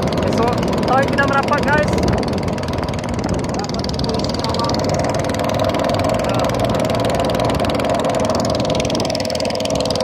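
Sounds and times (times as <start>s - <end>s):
boat engine chatter: 0.0s - 10.0s.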